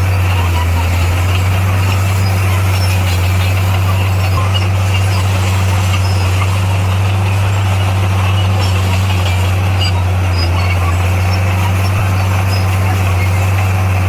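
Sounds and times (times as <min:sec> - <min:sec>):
heavy diesel engine humming: 0:00.0 - 0:14.0.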